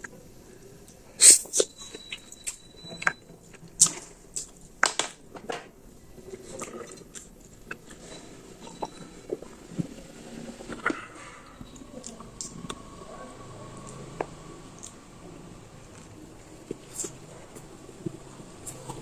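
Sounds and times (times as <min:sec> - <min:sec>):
noodles being chewed: 0:00.0 - 0:19.0.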